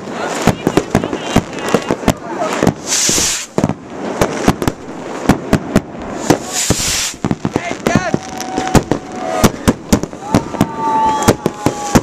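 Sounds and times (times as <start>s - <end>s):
fireworks and firecrackers banging: 0.0s - 12.0s
fireworks hissing: 0.0s - 12.0s.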